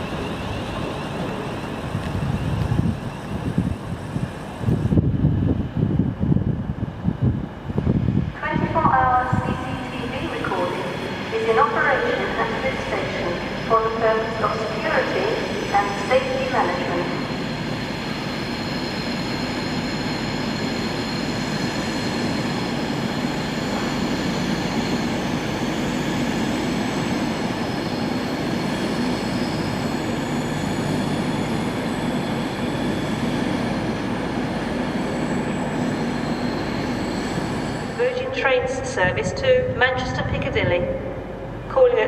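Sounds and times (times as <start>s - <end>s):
train running noise: 0.0s - 42.0s.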